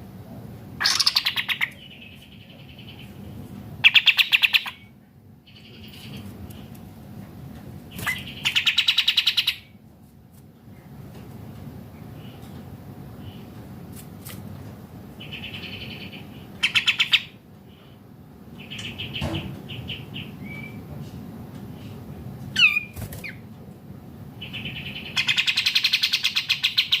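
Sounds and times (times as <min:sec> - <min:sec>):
birds chirping and chattering: 0:00.8 - 0:09.8, 0:10.7 - 0:13.9, 0:14.9 - 0:27.0.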